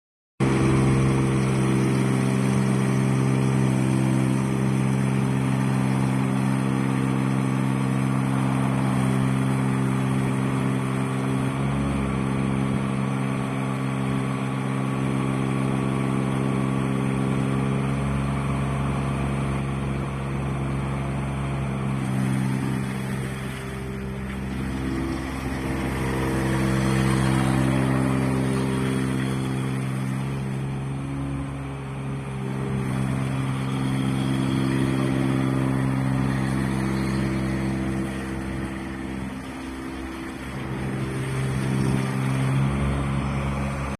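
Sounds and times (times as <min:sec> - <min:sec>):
skid steer loader engine running: 0:00.4 - 0:43.9.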